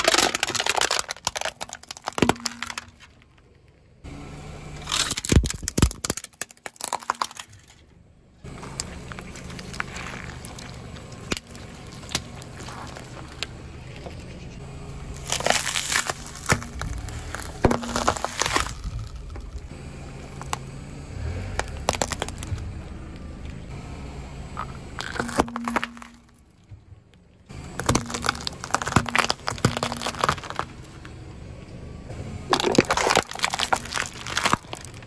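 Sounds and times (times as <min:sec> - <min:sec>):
tyre crushing small objects: 0:00.0 - 0:03.8, 0:04.8 - 0:20.7, 0:21.5 - 0:22.8, 0:24.6 - 0:31.2, 0:32.5 - 0:35.0
low steady rumble: 0:00.0 - 0:35.0.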